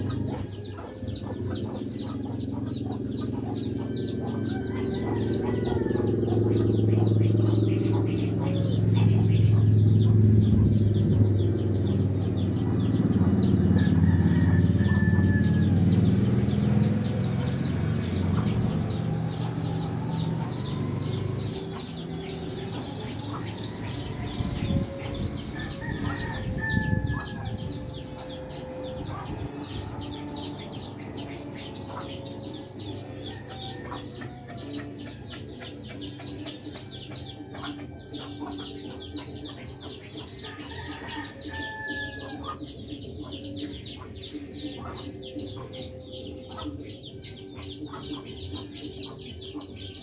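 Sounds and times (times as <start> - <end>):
chickens clucking: 0.0 - 50.0
low steady drone: 0.0 - 50.0
rapid high chirping: 0.0 - 50.0.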